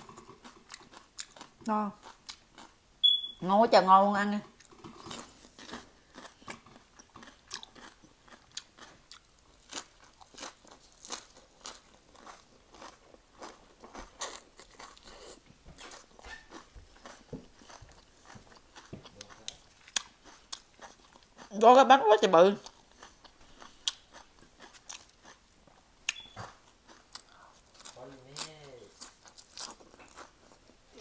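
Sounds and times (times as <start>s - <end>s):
crunchy chewing: 0.0s - 2.8s, 4.6s - 21.6s, 22.6s - 31.0s.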